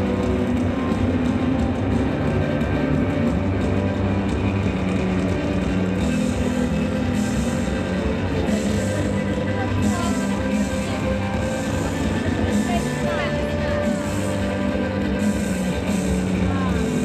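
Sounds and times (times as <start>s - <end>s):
loud music with steady bass: 0.0s - 17.0s.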